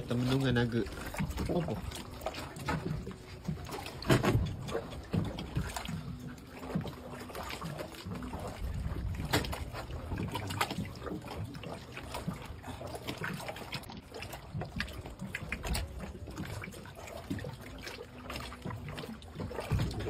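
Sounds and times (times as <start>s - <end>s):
seawater lapping against boat: 0.0s - 20.0s
small splashes and clicks: 0.0s - 20.0s.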